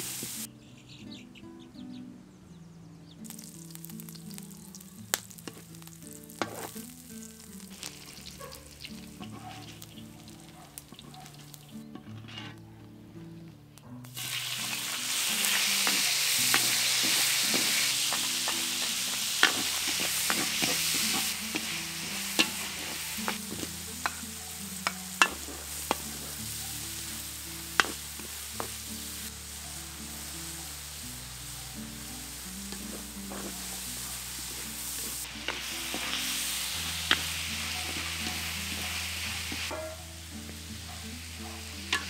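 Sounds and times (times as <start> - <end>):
food sizzling in oil: 0.0 - 0.5, 3.2 - 12.0, 14.1 - 42.0
spatula scraping a wok: 5.2 - 12.8, 14.2 - 29.5, 30.1 - 40.9.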